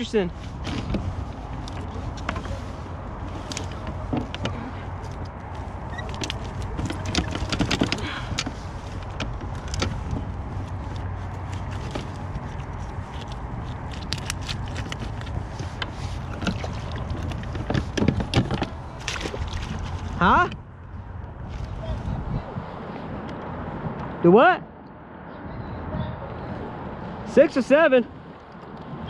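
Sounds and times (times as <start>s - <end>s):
steady low rumble: 0.0s - 24.2s.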